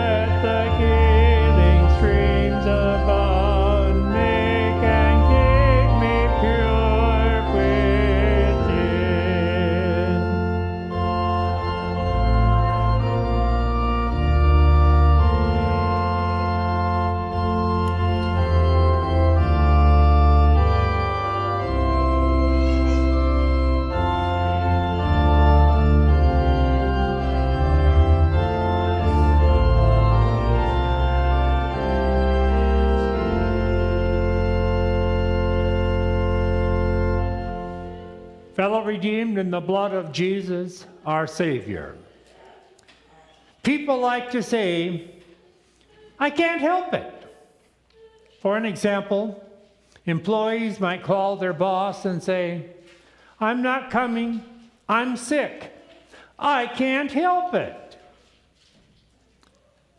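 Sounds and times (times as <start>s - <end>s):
organ playing held chords: 0.0s - 42.0s, 48.5s - 58.4s.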